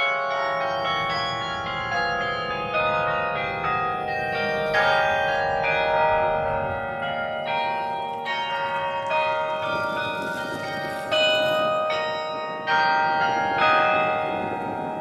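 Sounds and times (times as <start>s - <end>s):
carillon bells playing slow melody: 0.0s - 15.0s.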